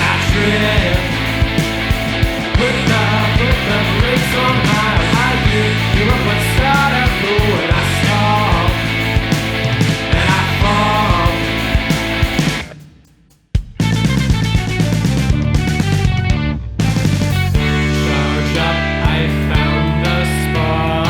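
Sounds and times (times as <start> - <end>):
electric guitars: 0.0 - 12.8, 14.3 - 21.0
programmed drums: 0.0 - 20.0.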